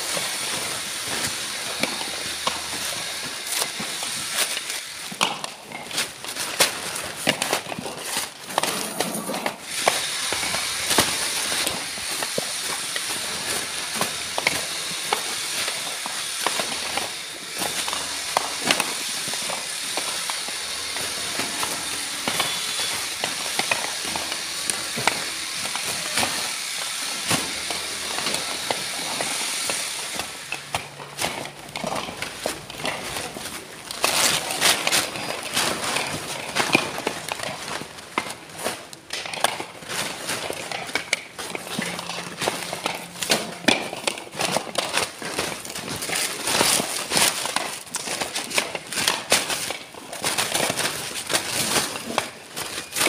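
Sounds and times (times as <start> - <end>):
coconuts knocking together: 0.0 - 53.0.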